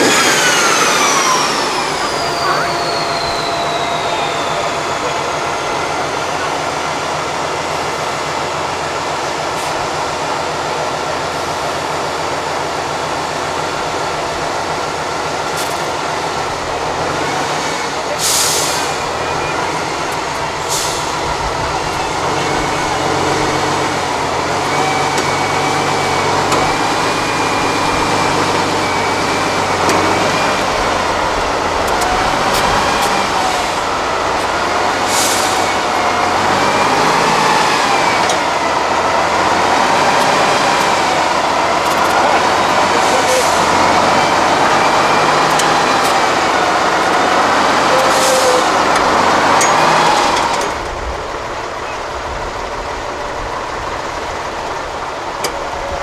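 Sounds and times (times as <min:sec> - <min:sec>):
truck diesel engine under load: 0:00.0 - 0:56.0.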